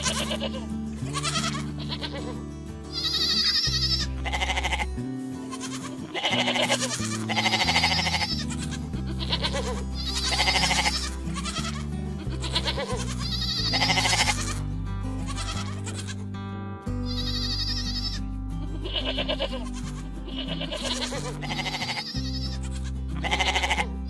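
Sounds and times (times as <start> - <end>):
goats bleating: 0.0 - 16.4, 17.0 - 24.0
background music: 0.0 - 24.0.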